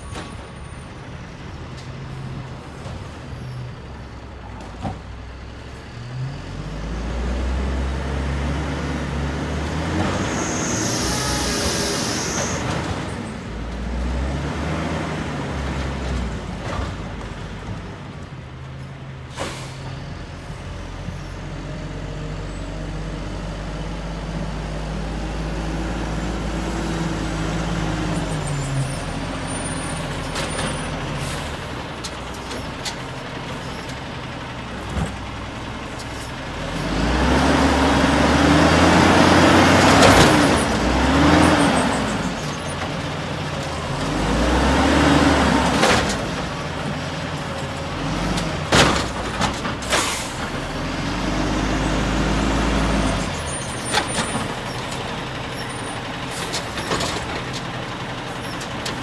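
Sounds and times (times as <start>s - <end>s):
garbage truck engine revving: 5.9s - 17.6s, 20.8s - 59.0s.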